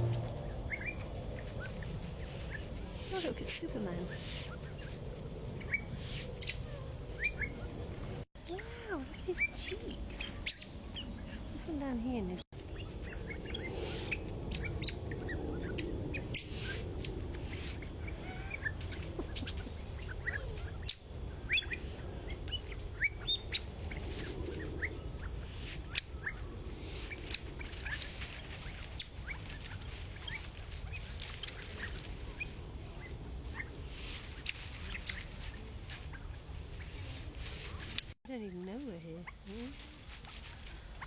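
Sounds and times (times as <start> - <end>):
birds chirping: 0.0 - 41.0
low background rumble: 0.0 - 41.0.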